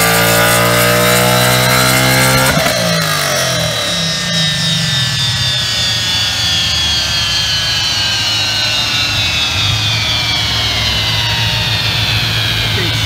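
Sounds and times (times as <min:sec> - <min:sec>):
high whine: 0:00.0 - 0:13.0
race car engine drone: 0:00.0 - 0:13.0.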